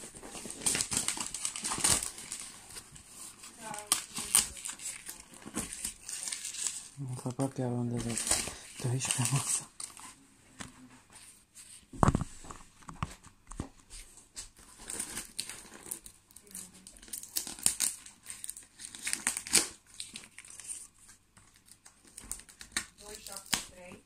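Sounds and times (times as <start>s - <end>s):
packaging crinkling and tearing: 0.0s - 10.2s, 14.4s - 24.0s.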